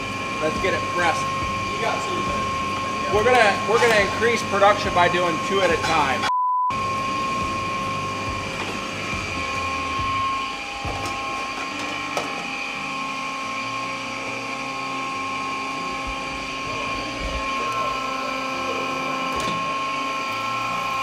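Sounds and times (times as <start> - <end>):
machinery humming with high whine: 0.0 - 21.0.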